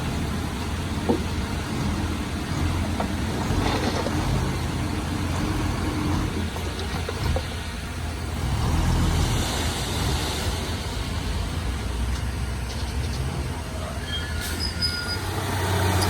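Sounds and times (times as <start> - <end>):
bulldozer diesel engine rumbling: 0.0 - 16.0.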